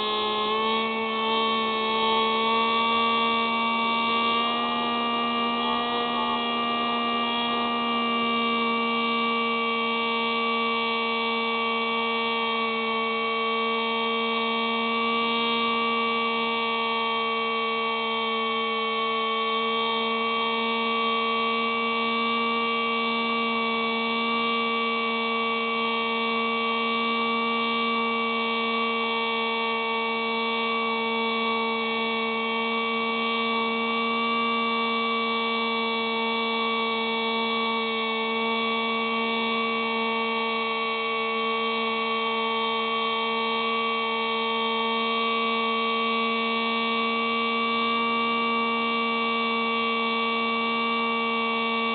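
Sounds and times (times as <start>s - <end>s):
electric motor and propeller whining: 0.0s - 51.9s.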